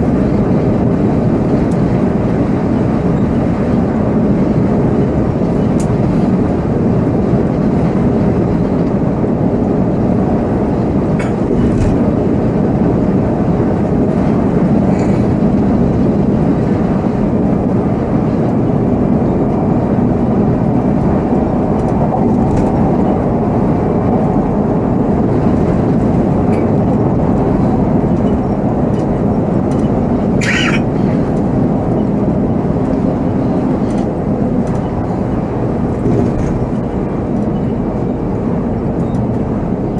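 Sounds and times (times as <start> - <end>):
coach engine and road noise: 0.0 - 39.9.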